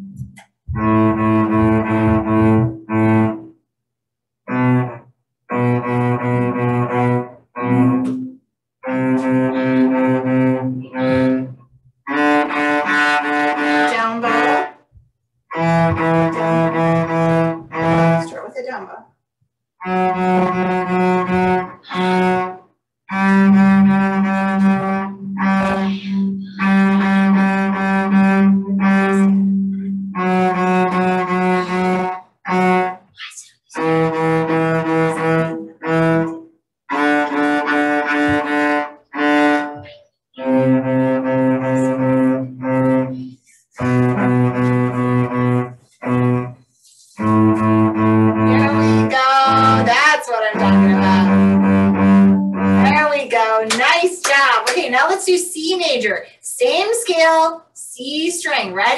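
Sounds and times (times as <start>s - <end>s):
cello bowed sustained notes: 0.0s - 3.5s, 4.5s - 14.8s, 15.5s - 18.4s, 19.8s - 53.3s.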